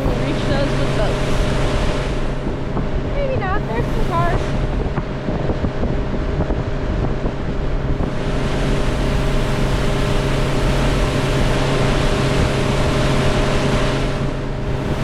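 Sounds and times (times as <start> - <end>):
motorboat engine running: 0.0 - 15.0
rush of wind and water: 0.0 - 15.0.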